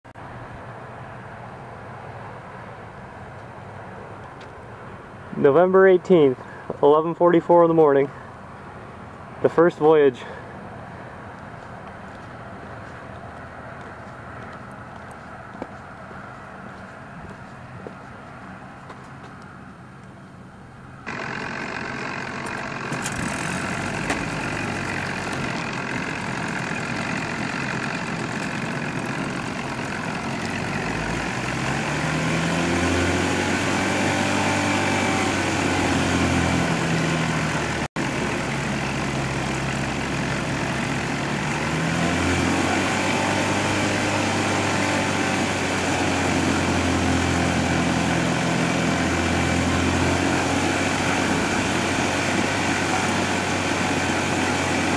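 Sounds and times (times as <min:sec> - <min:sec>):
engine running: 0:00.1 - 0:54.9.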